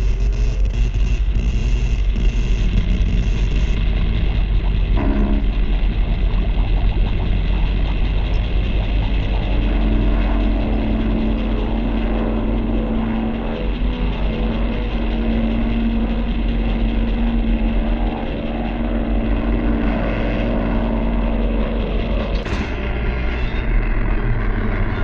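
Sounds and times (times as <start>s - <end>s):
machinery mechanical drone: 0.0s - 25.0s.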